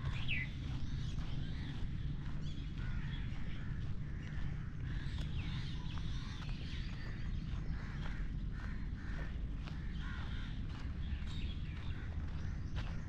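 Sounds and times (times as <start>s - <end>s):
many birds chirping: 0.0s - 13.0s
steady low rumble: 0.0s - 13.0s.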